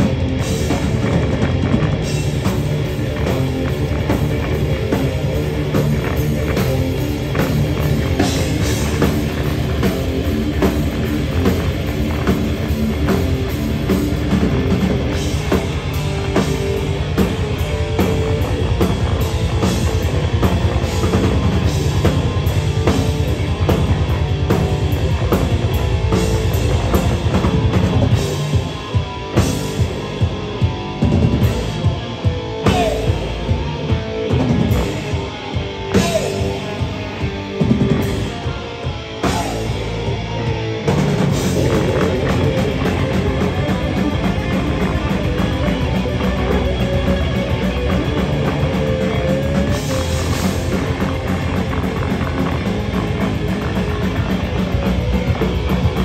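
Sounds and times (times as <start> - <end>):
drum kit beat: 0.0 - 56.0
heavy rock band playing: 0.0 - 56.0.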